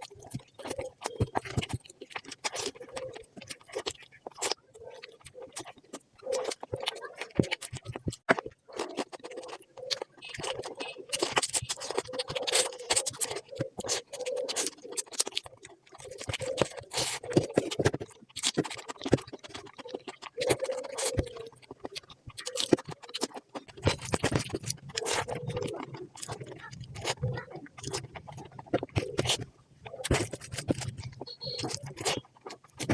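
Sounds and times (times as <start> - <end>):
chewing and mouth noises: 0.0 - 32.9.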